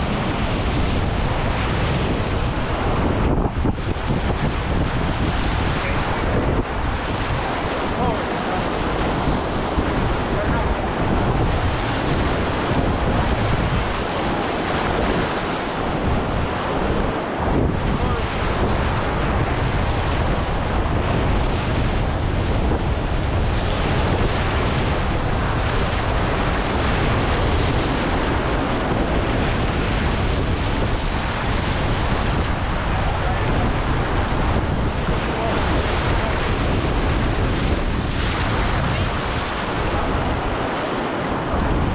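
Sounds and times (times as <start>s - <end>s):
river rapids rushing: 0.0s - 21.3s, 23.3s - 41.9s
wind buffeting microphone: 0.0s - 41.9s.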